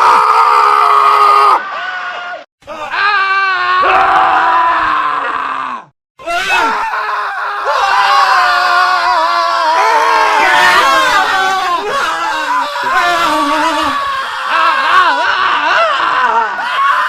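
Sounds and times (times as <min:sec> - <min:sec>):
men screaming: 0:00.0 - 0:17.0.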